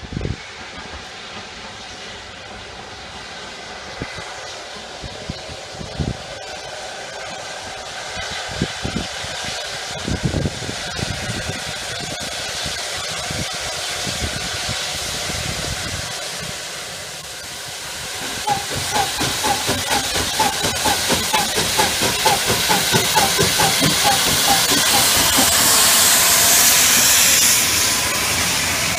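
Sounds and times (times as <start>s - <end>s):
steam hissing: 0.0s - 28.9s
steam locomotive chuffing: 0.0s - 28.9s.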